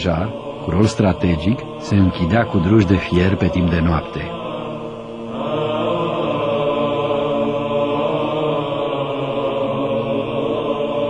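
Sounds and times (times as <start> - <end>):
choir chanting sustained notes: 0.0 - 11.0
low drone: 0.0 - 11.0.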